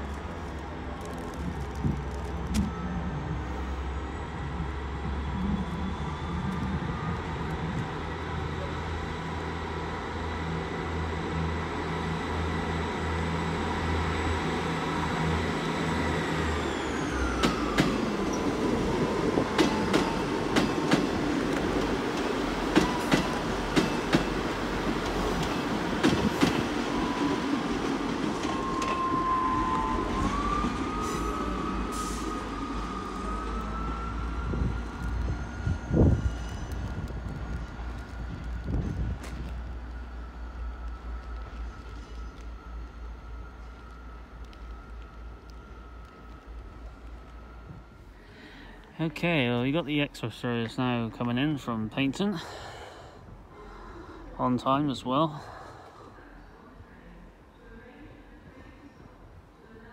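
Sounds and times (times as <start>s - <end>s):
diesel train engine hum: 0.0s - 59.9s.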